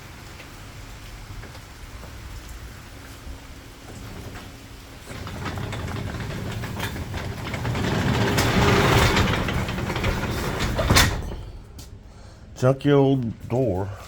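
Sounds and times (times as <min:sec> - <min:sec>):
garage door rolling and rattling: 0:00.6 - 0:14.0.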